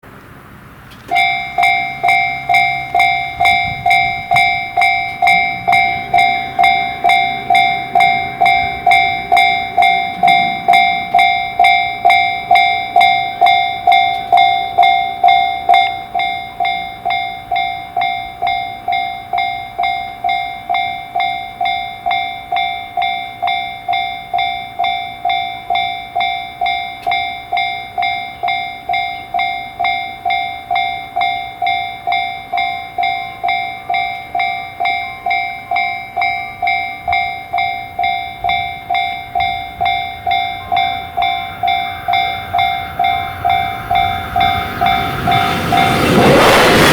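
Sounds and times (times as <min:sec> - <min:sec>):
railroad crossing warning bell: 0:00.0 - 0:46.9.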